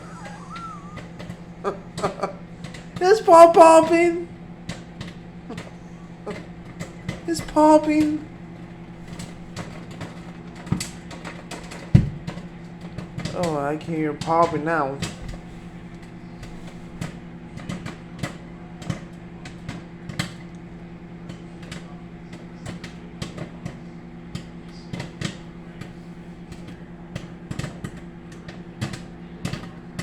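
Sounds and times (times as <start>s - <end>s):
microwave oven hum: 0.0s - 30.0s
popcorn popping: 0.0s - 30.0s.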